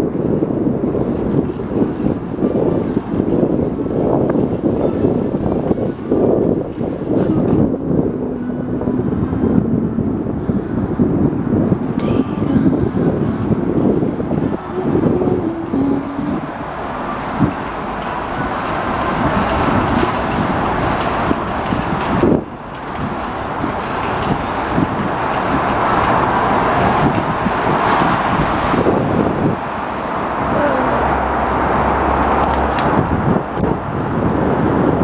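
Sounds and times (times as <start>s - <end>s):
bicycle tyres rolling on pavement: 0.0s - 30.5s, 31.4s - 35.0s
low bumps: 0.0s - 35.0s
wind on microphone: 0.0s - 35.0s.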